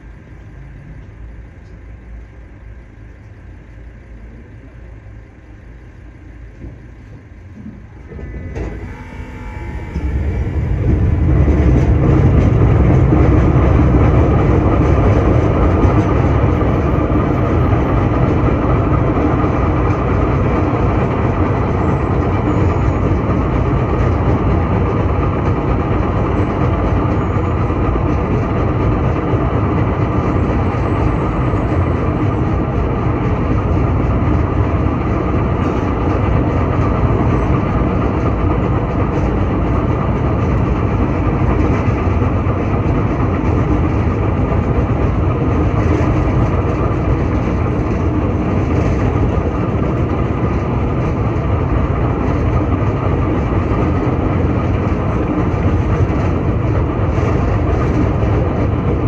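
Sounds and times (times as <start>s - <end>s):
tram wheels on rails: 0.0s - 59.0s.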